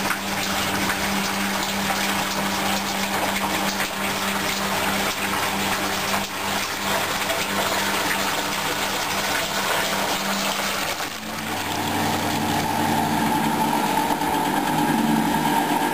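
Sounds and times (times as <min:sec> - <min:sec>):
washing machine motor whine: 0:00.0 - 0:15.9
water swishing in washing machine: 0:00.0 - 0:15.9.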